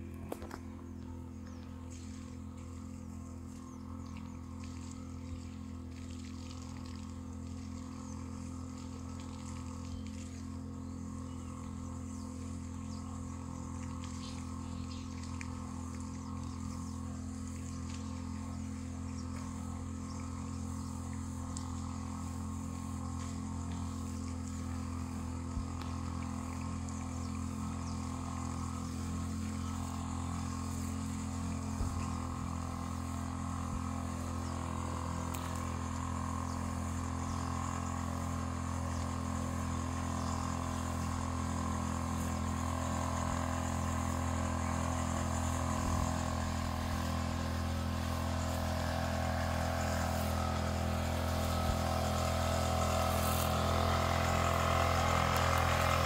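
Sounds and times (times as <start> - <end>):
motorized sprayer humming: 0.0 - 56.0.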